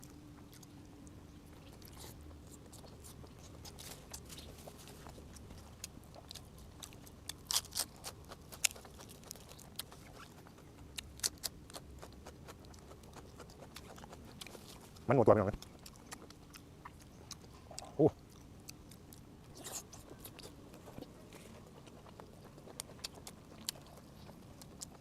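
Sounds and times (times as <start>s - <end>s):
person chewing: 0.0s - 25.0s.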